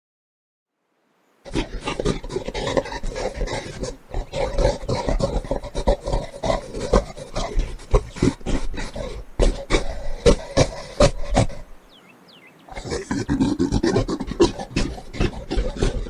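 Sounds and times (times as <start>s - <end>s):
gorilla rough grunts: 1.5s - 11.9s, 12.7s - 16.0s.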